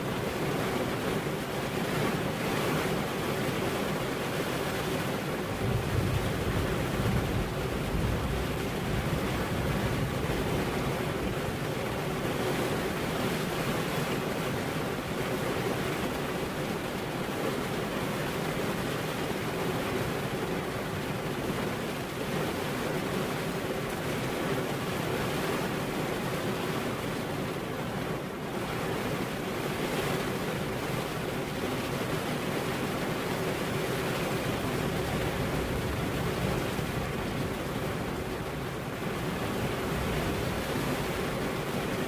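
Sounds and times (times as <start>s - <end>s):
rain falling steadily: 0.0s - 42.0s.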